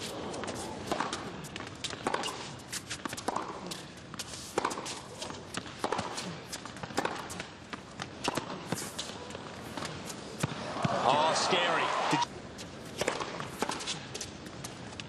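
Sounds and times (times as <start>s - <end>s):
rackets hitting tennis ball: 0.0s - 11.8s, 12.9s - 15.0s.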